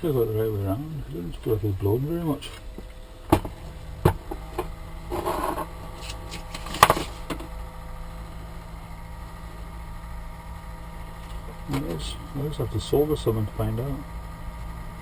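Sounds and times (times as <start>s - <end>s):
computer fans humming: 0.0s - 15.0s.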